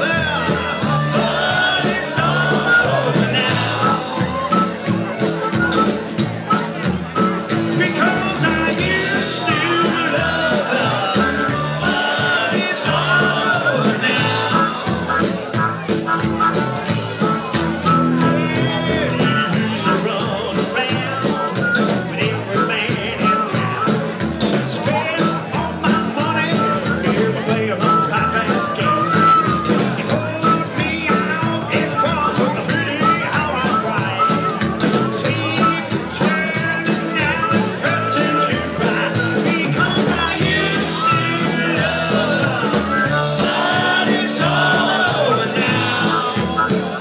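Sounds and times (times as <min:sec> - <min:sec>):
drums steady beat: 0:00.0 - 0:47.0
harmonica: 0:00.0 - 0:47.0
live rock and roll band: 0:00.0 - 0:47.0
person singing: 0:00.0 - 0:47.0
upright bass: 0:00.0 - 0:47.0.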